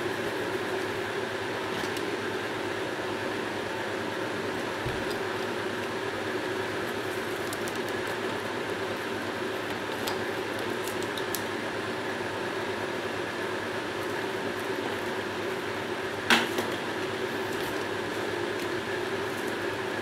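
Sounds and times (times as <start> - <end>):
electric fan whirring: 0.0 - 20.0.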